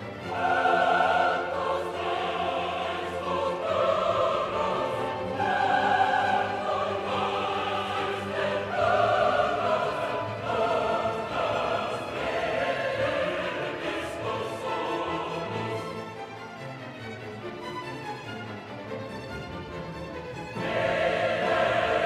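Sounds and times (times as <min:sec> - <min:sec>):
choral and orchestral music: 0:00.0 - 0:22.0.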